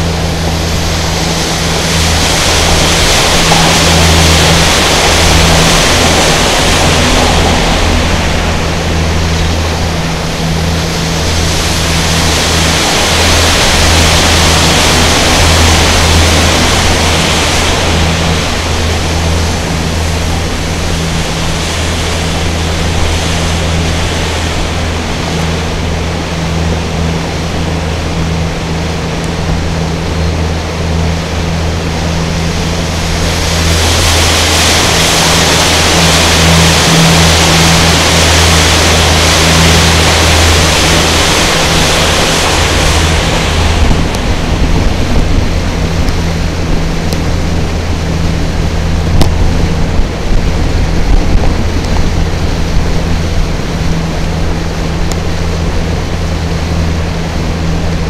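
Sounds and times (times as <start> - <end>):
boat engine droning: 0.0 - 58.0
water rushing along hull: 0.0 - 58.0.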